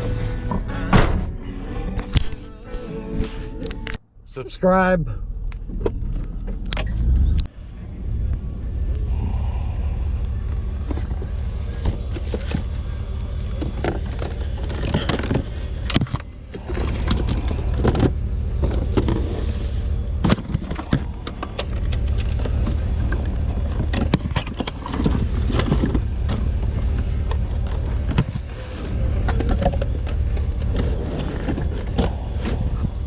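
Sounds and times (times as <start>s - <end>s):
vehicle engine rumble: 0.0s - 33.0s.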